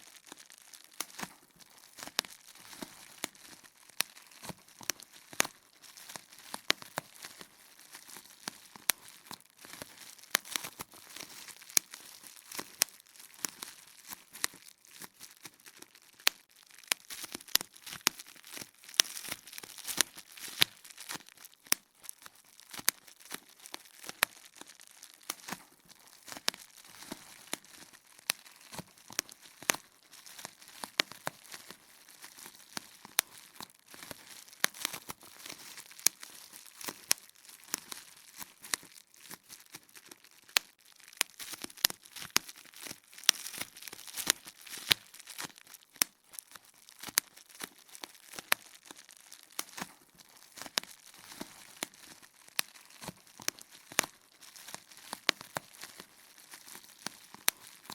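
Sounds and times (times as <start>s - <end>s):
bubble wrap popping: 0.0s - 57.9s
plastic sheet crinkling: 0.0s - 57.9s.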